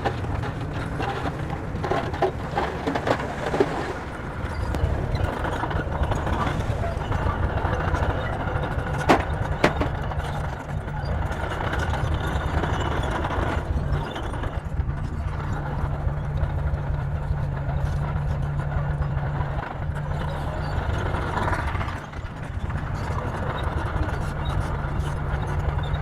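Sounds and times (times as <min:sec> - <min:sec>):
diesel engine deep drone: 0:00.0 - 0:26.0.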